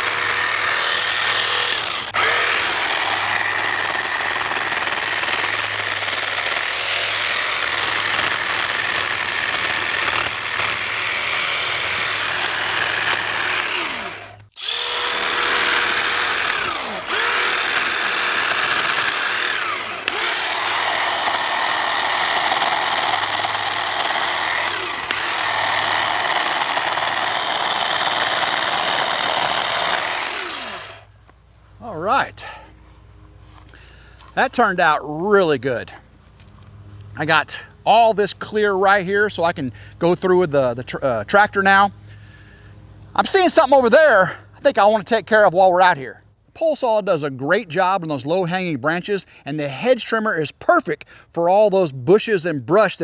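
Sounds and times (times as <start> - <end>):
hedge trimmer blades chattering: 0.0 - 31.1, 31.8 - 46.0, 46.6 - 53.0.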